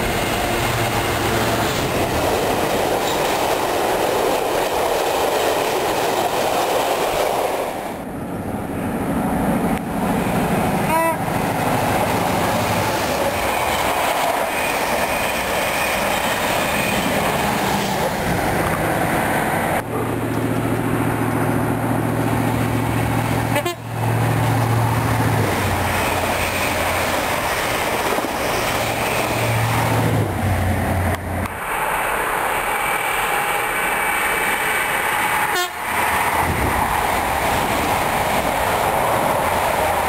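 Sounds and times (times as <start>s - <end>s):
train wheel and rail noise: 0.0s - 40.0s.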